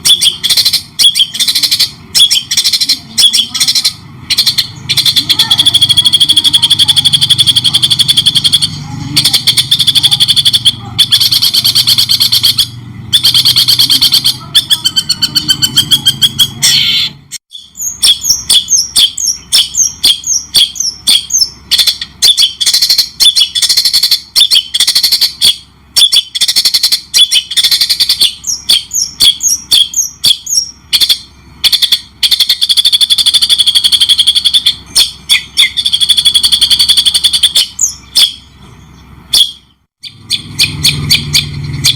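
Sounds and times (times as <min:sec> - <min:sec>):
songbird chattering notes: 0:00.0 - 0:41.9.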